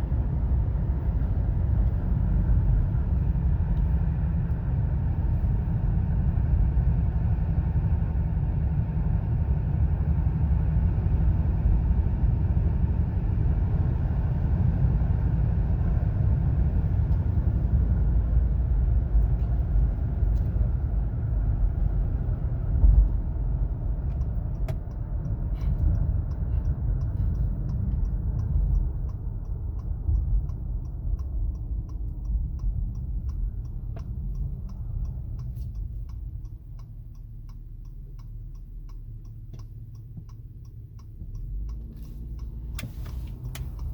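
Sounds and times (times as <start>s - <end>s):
road and tyre noise: 0.0s - 43.9s
turn signal ticking: 0.0s - 43.9s.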